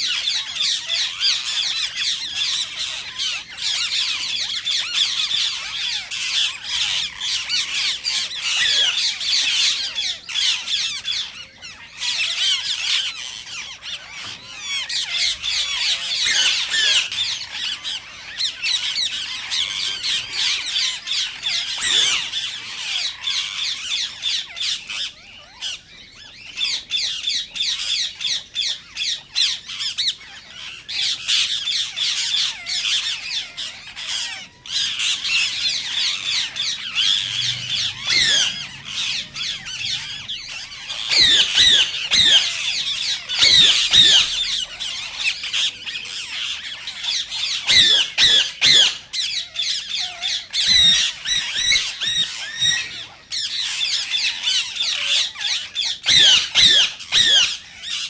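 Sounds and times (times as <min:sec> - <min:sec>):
parakeet squawking: 0:00.0 - 0:58.0.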